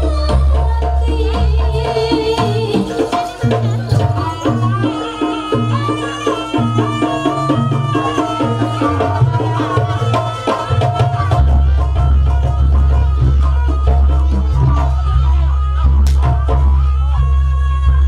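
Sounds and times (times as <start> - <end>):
hand drums beating: 0.0 - 18.0.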